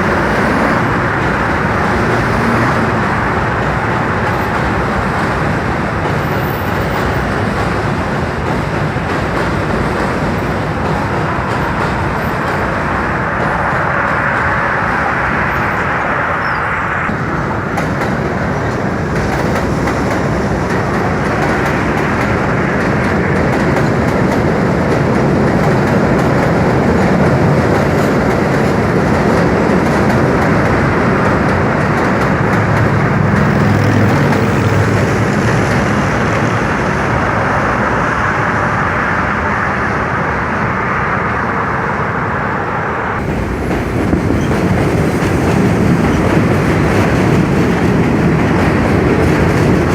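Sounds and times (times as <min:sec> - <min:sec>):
subway train wheels on rails: 0:00.0 - 0:49.9.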